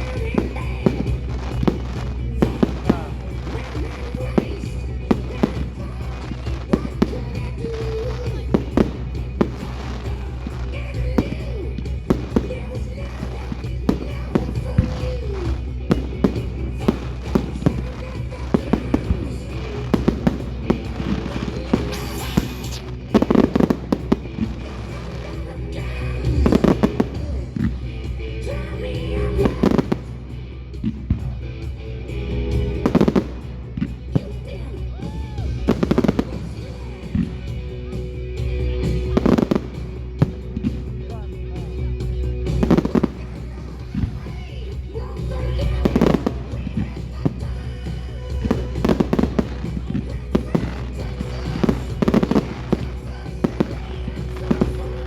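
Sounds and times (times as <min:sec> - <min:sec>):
fireworks bangs: 0:00.0 - 0:27.8, 0:29.3 - 0:30.2, 0:32.7 - 0:34.4, 0:35.2 - 0:37.5, 0:38.8 - 0:41.2, 0:42.5 - 0:44.6, 0:45.3 - 0:55.0
music: 0:00.0 - 0:55.0.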